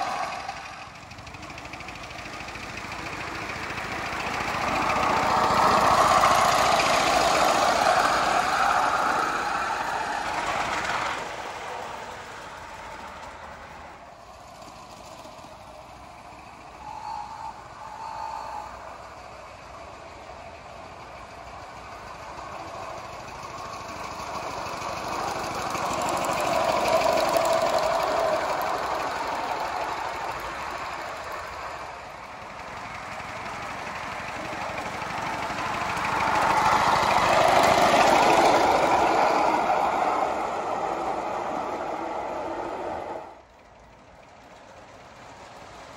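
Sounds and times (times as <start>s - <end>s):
steam locomotive exhaust chuffing: 0.0s - 45.9s.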